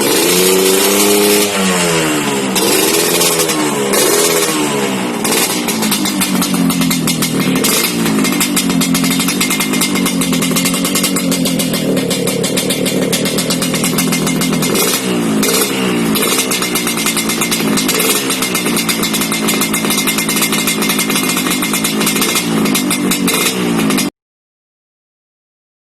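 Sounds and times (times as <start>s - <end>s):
two-stroke motorcycle revving: 0.0s - 24.2s.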